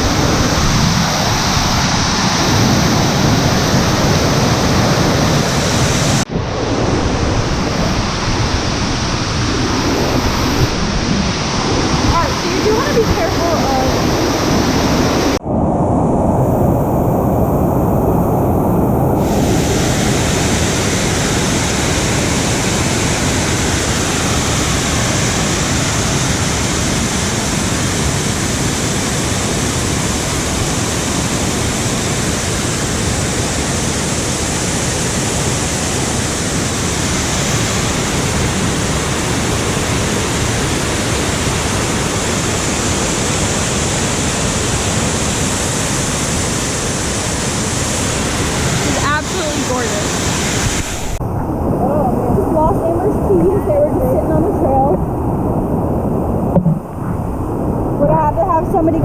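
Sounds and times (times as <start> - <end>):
waterfall rushing: 0.0 - 15.4, 19.1 - 54.8.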